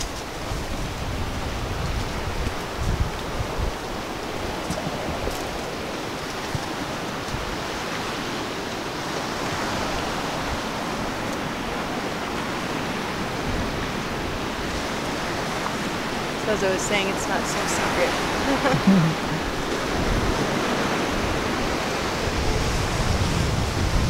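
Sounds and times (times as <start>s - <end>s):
ocean surf washing onto beach: 0.0s - 24.0s.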